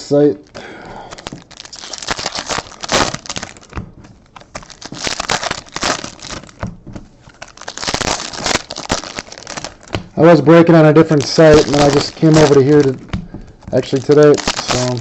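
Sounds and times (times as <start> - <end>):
card pack wrappers crinkling: 0.1 - 15.0.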